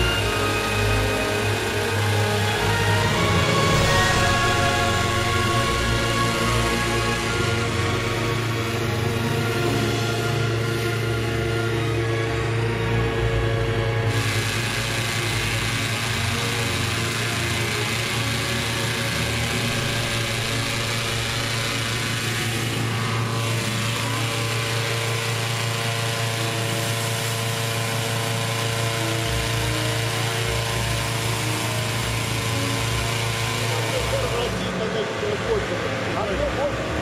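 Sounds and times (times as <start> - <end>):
propane burner firing: 0.0 - 12.8, 14.0 - 35.7
inflator fan engine running: 0.0 - 37.0.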